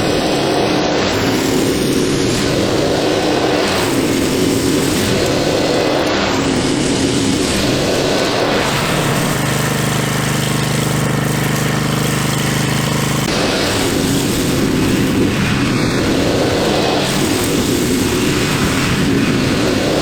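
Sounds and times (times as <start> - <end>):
lawn mower engine and deck: 0.0 - 20.0.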